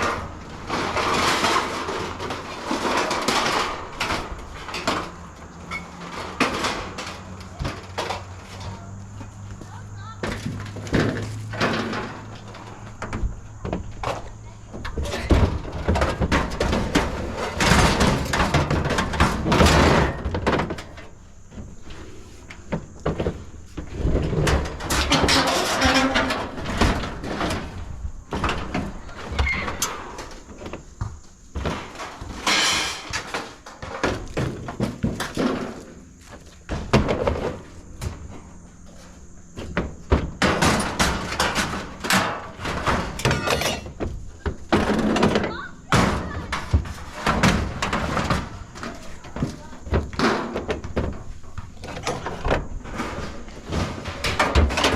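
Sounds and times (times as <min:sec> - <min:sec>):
scrap metal clanking into truck bed: 0:00.0 - 0:08.9, 0:10.0 - 0:30.8, 0:31.6 - 0:54.9.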